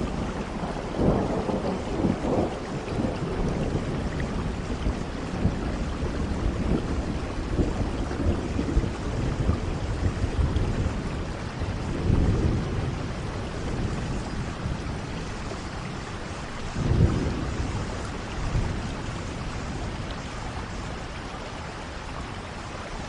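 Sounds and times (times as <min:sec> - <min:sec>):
thunder rumbling: 0:00.0 - 0:21.2
steady rain falling: 0:00.0 - 0:23.0.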